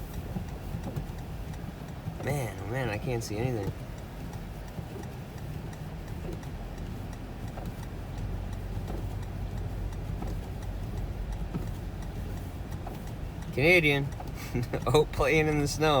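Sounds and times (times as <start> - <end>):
engine and tyres rumbling: 0.0 - 16.0
faint light ticks: 0.0 - 16.0.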